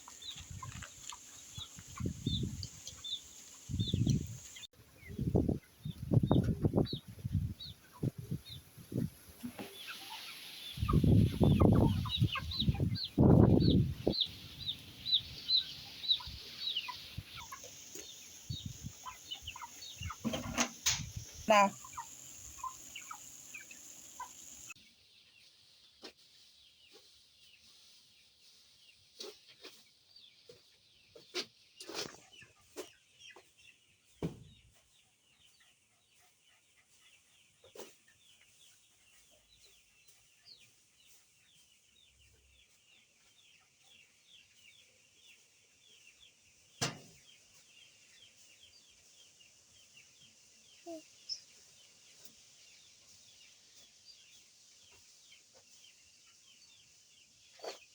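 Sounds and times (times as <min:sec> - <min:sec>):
chickens clucking and cheeping: 0:00.0 - 0:57.9.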